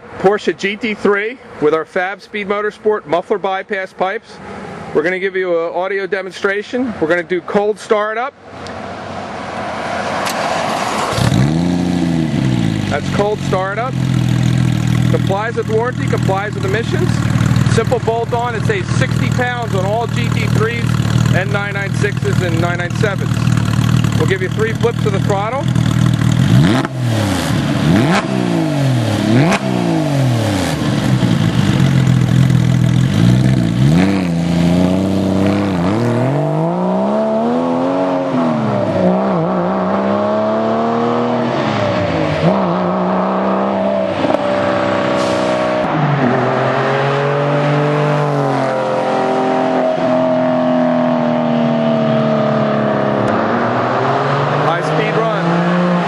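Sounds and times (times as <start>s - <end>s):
car engine revving: 8.5s - 56.0s.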